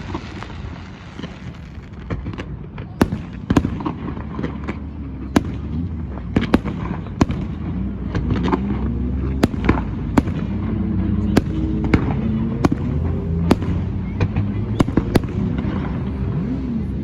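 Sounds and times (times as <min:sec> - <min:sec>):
fireworks banging: 0:00.0 - 0:16.8
low rumble: 0:01.8 - 0:17.0.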